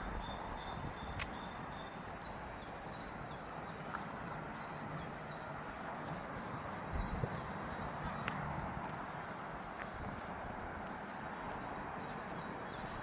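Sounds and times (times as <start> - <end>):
footsteps on path: 0.0 - 13.0
small birds chirping: 0.0 - 13.0.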